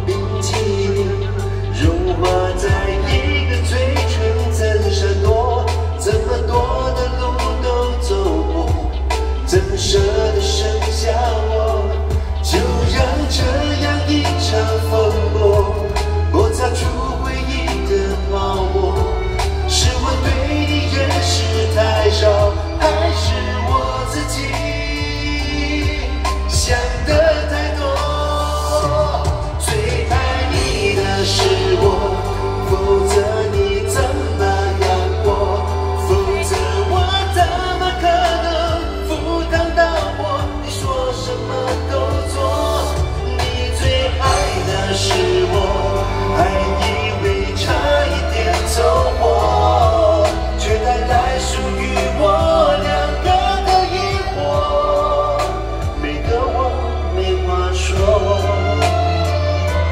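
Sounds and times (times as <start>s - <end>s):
band playing: 0.0s - 59.9s
person singing: 0.0s - 59.9s.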